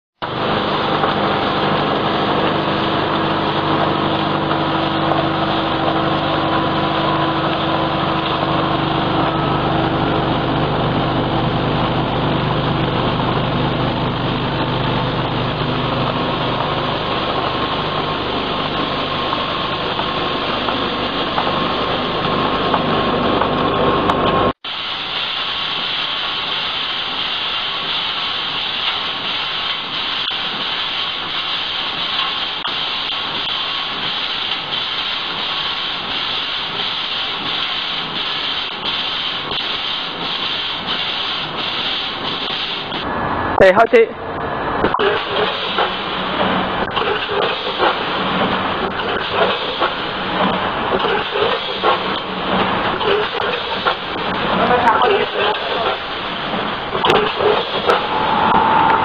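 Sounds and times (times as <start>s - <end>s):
packaging machine humming: 0.2s - 43.4s, 44.4s - 59.0s.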